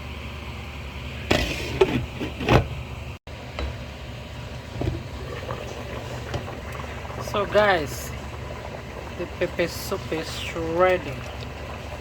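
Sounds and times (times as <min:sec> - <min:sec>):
gas burner rumble: 0:00.0 - 0:12.0.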